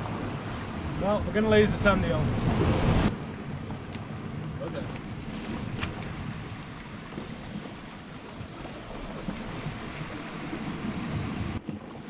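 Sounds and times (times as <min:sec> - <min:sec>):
sea waves washing: 0:00.0 - 0:12.0
wind buffeting microphone: 0:00.0 - 0:12.0.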